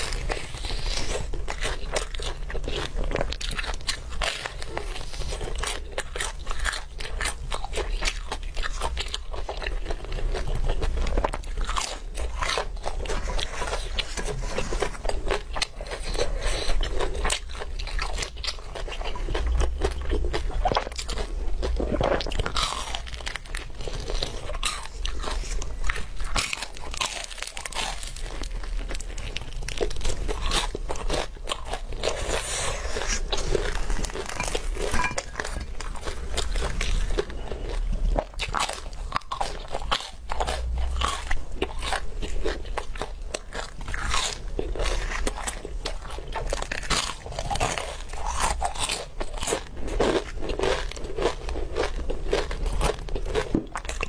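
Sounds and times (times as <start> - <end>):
person chewing crunchy meat: 0.0 - 54.0.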